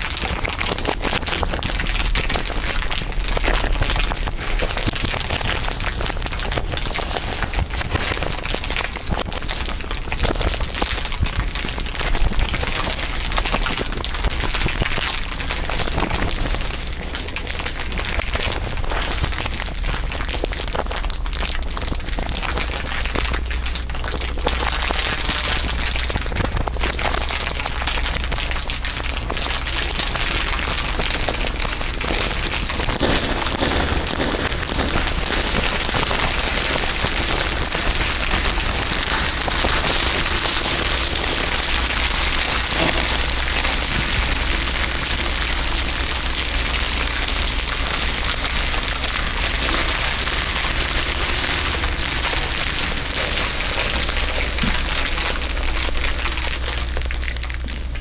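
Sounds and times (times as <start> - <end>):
dense continuous crinkling: 0.0 - 58.0.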